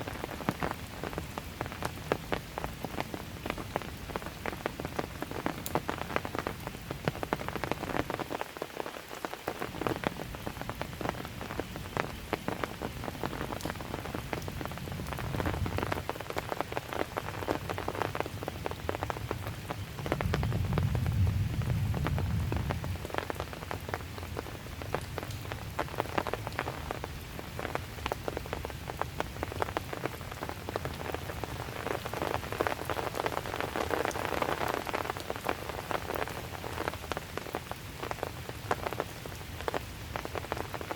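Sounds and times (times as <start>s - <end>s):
raindrops ticking on surfaces: 0.0s - 40.9s
steady rain falling: 0.0s - 40.9s.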